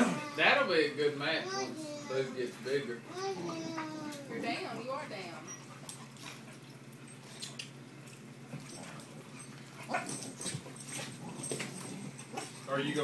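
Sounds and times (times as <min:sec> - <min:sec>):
dog noises: 0:01.4 - 0:13.0
dogs scuffling: 0:02.4 - 0:13.0.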